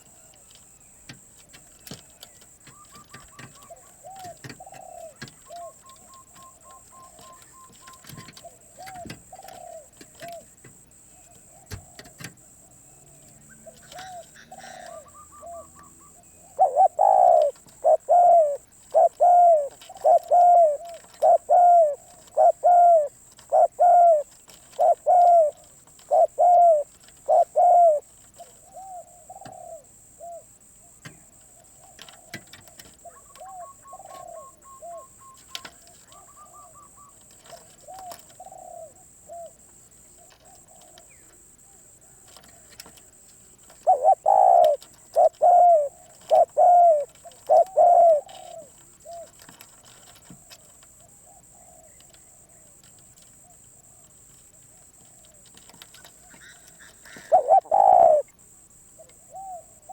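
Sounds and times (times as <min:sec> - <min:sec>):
doves cooing: 0:00.0 - 0:59.9.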